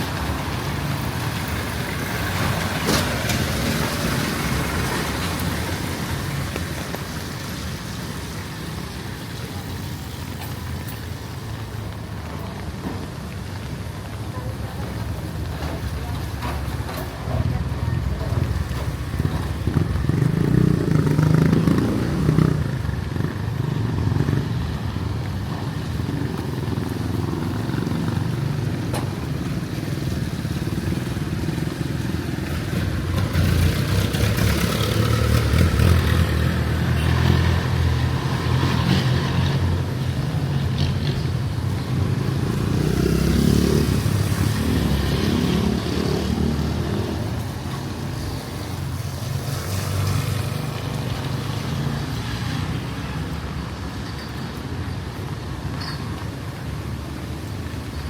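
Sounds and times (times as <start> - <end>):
motorcycle engines passing: 0.0 - 58.0
street traffic: 0.0 - 58.0.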